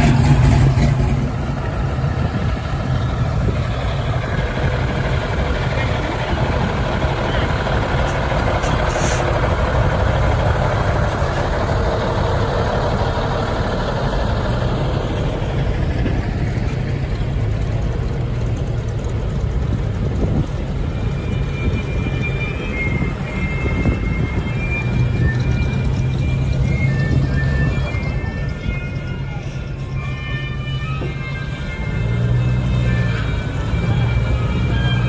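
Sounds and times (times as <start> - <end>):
jeep engine passing: 0.0 - 35.0
military truck engine driving past: 0.0 - 35.0.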